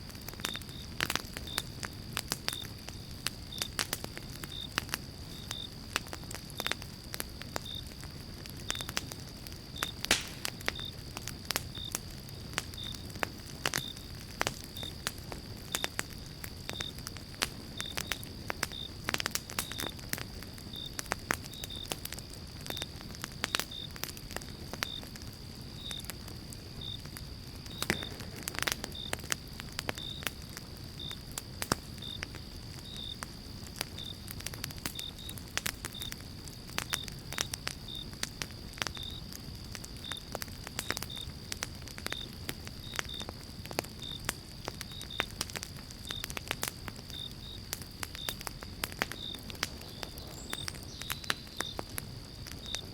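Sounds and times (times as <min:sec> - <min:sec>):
wood fire crackling and popping: 0:00.0 - 0:52.9.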